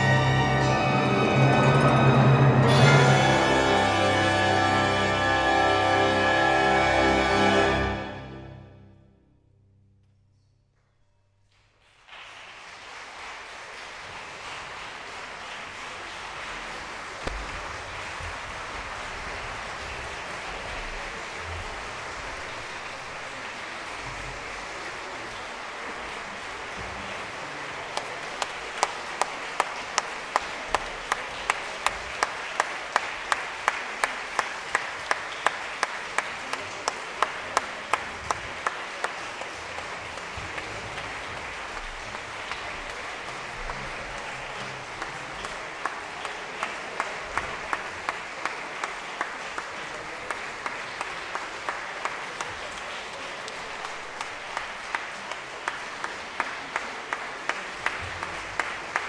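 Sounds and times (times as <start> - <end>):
audience applauding: 0.0 - 8.3, 11.6 - 59.0.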